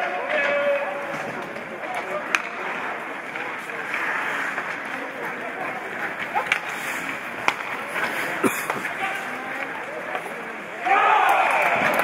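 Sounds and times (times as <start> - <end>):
skates scraping on ice: 0.4 - 10.5.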